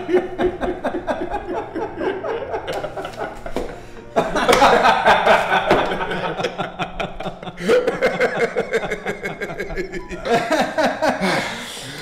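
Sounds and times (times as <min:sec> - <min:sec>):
men laughing heartily: 0:00.0 - 0:12.0.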